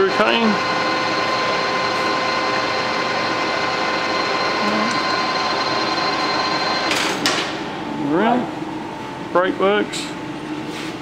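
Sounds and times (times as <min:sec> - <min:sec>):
lathe whirring and whining: 0:00.0 - 0:10.7.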